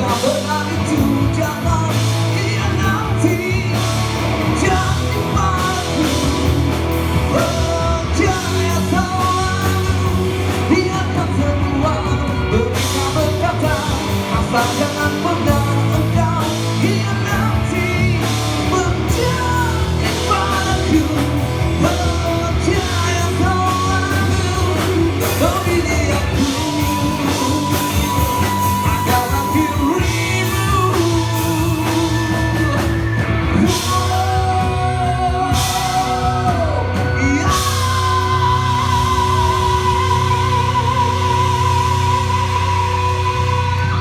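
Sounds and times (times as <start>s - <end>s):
bass guitar: 0.0s - 44.0s
drums: 0.0s - 44.0s
electric guitar: 0.0s - 44.0s.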